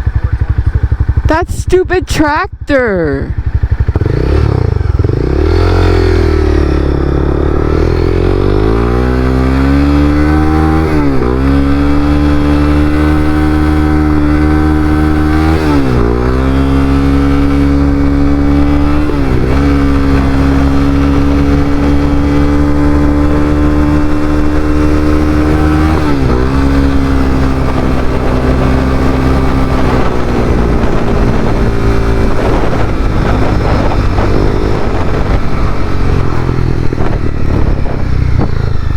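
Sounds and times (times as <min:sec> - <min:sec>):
motorcycle engine revving through gears: 0:03.1 - 0:38.9.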